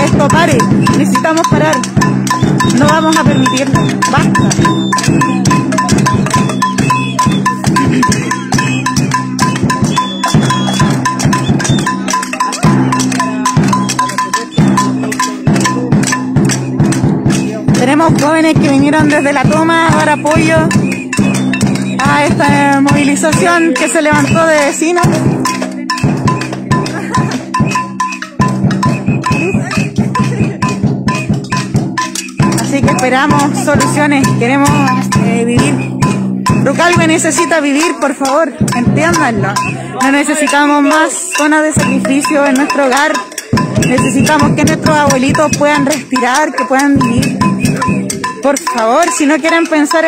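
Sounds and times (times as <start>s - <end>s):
cowbell: 0.0s - 50.0s
drums: 0.0s - 50.0s.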